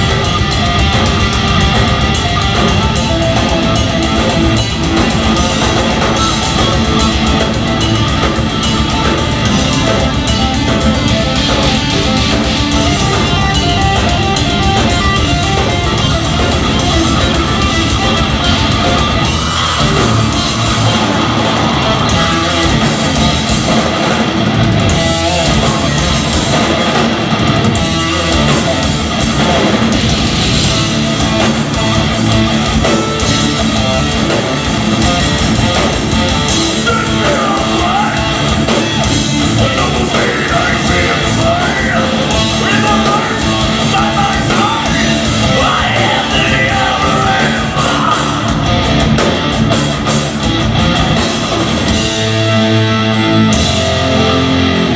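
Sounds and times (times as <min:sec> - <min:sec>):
live progressive metal band: 0:00.0 - 0:54.9.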